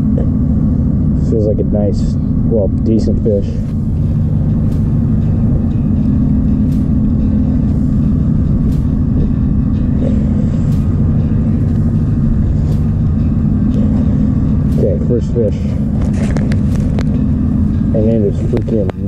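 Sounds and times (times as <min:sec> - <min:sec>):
blizzard wind buffeting microphone: 0:00.0 - 0:19.0.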